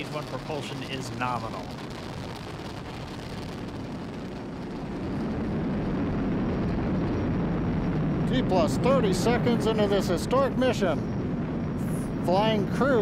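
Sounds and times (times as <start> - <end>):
rocket engines deep rumbling: 0.0 - 13.0.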